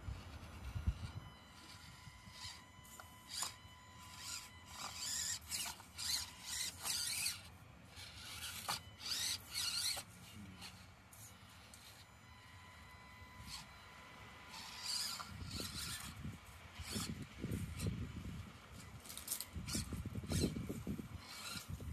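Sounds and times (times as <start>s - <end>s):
electric motor and gears whirring: 0.0s - 21.9s
faint steady whine: 0.0s - 21.9s.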